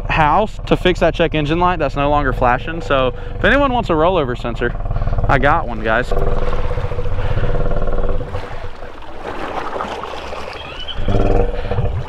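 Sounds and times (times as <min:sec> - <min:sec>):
atv engine running: 0:00.0 - 0:10.1, 0:10.8 - 0:12.0
water sloshing and churning: 0:01.1 - 0:12.0.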